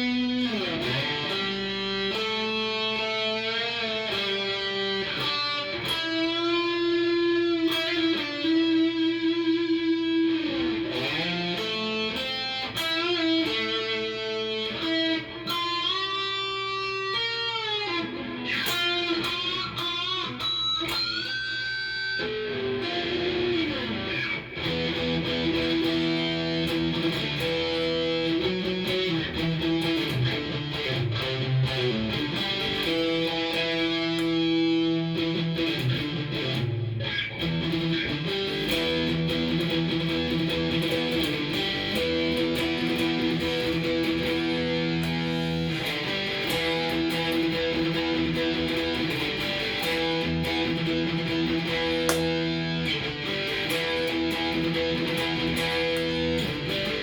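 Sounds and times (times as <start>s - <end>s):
electric guitar lead: 0.0s - 57.0s.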